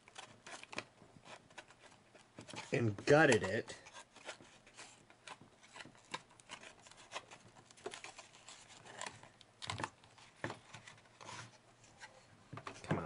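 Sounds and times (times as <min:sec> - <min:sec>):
fingers handling plastic case: 0:00.0 - 0:13.0.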